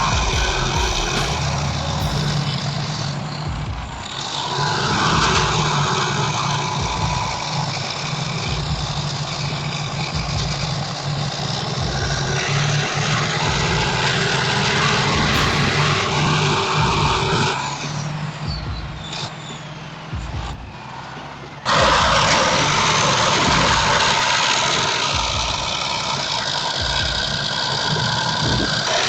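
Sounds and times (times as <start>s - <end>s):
heavy vehicle engine droning: 0.0s - 29.0s.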